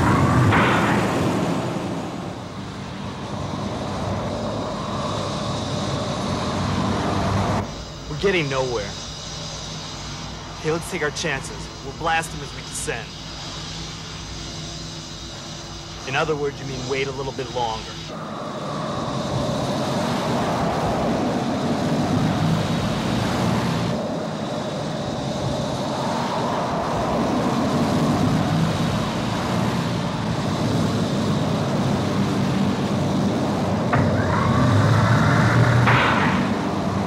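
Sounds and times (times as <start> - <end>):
rising whine: 0.0 - 37.0
sci-fi vehicle drone and hiss: 0.0 - 37.0.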